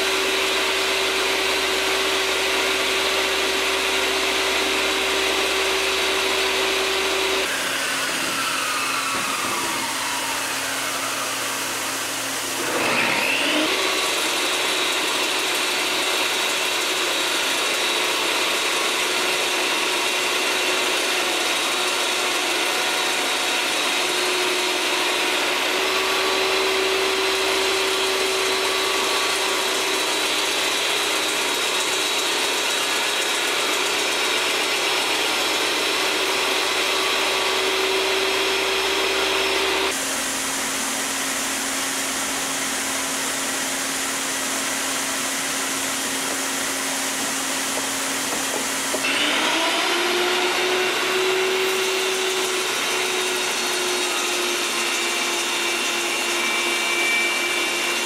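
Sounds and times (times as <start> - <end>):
power tool motor whine: 0.0 - 58.0
saw blade cutting wood: 0.0 - 58.0.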